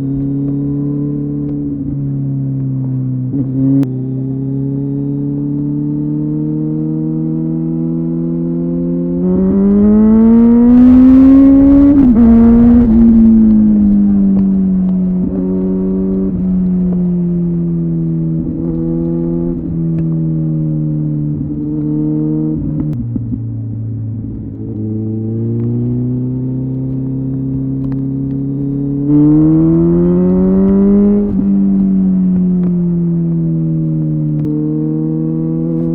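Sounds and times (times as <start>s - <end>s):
motorcycle engine accelerating: 0.0s - 35.9s.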